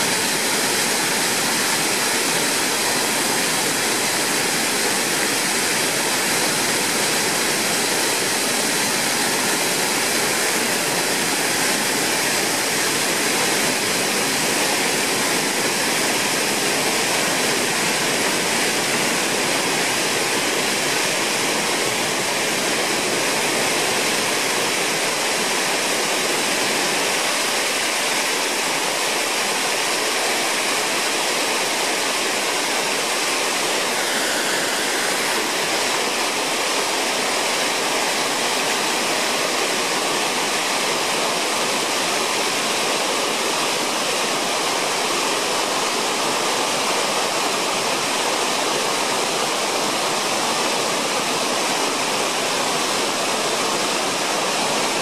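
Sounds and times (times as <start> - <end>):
water rushing over spillway: 0.0 - 55.0.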